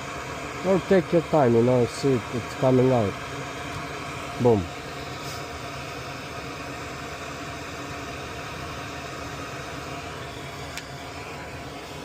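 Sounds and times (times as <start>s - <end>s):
fan noise hissing and humming: 0.0s - 12.0s.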